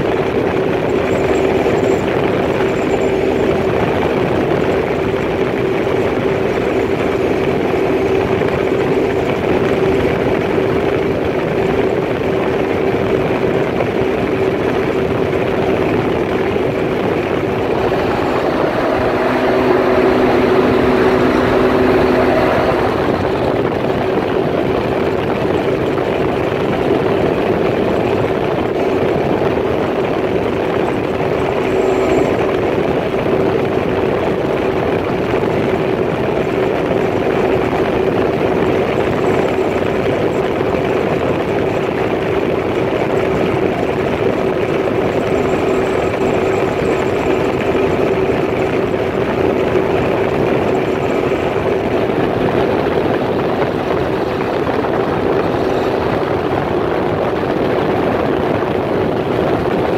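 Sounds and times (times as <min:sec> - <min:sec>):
hull rushing through water: 0:00.0 - 0:59.9
watercraft engine droning: 0:00.0 - 0:59.9.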